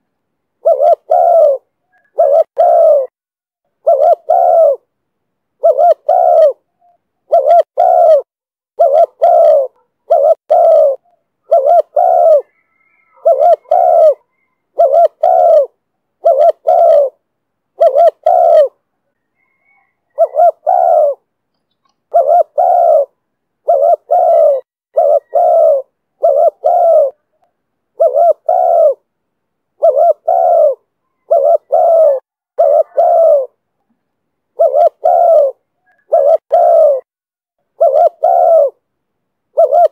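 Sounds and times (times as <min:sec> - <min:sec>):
dove cooing: 0:00.6 - 0:03.2, 0:03.8 - 0:04.9, 0:05.6 - 0:21.3, 0:22.1 - 0:27.4, 0:28.0 - 0:29.1, 0:29.8 - 0:33.6, 0:34.5 - 0:37.1, 0:37.7 - 0:38.8, 0:39.5 - 0:39.9.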